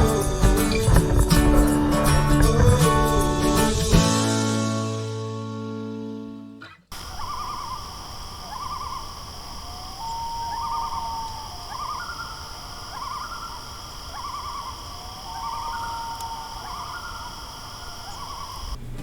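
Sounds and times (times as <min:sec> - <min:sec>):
insects chorus: 0:00.0 - 0:04.2, 0:06.9 - 0:18.8
loons calling: 0:00.0 - 0:04.2, 0:06.9 - 0:18.8.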